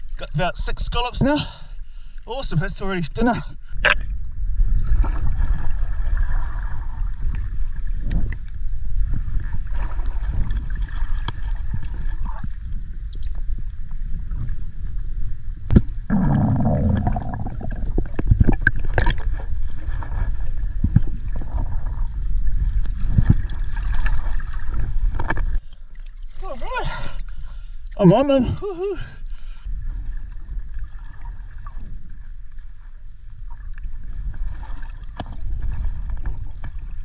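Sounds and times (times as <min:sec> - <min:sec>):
muffled underwater rumble: 0:03.3 - 0:27.9, 0:28.5 - 0:37.0.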